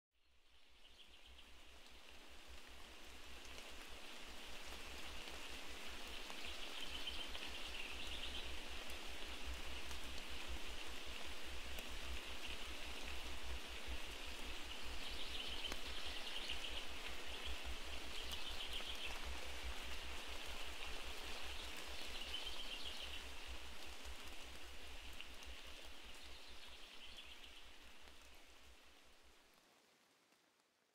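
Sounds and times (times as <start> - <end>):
rain-like hiss: 0.2 - 30.9.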